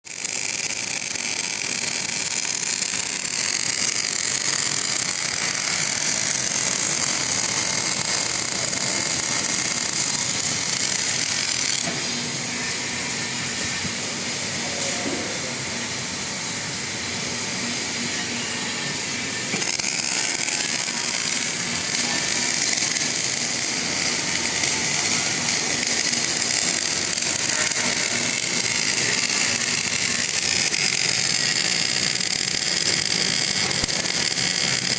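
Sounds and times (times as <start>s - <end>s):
arc welding hiss: 0.1s - 34.9s.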